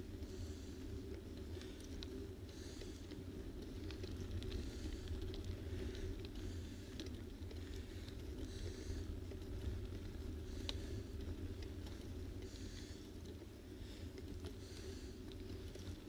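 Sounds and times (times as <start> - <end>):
faint hissy rustles: 0.0 - 16.0.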